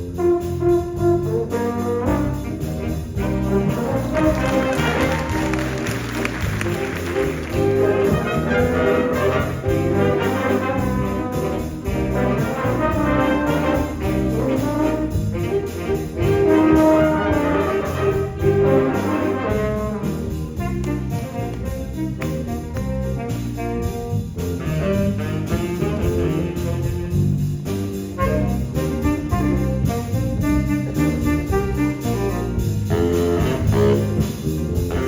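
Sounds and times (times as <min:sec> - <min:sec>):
big band jazz: 0:00.0 - 0:35.0
trumpets and trombones: 0:00.0 - 0:35.0.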